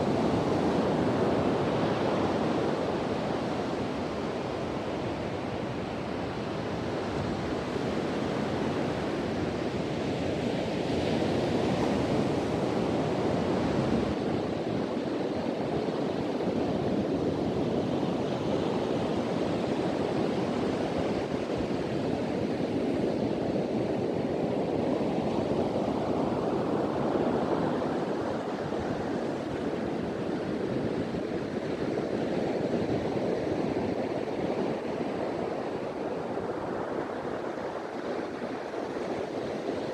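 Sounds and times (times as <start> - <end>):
wind blowing over microphone: 0.0 - 39.9.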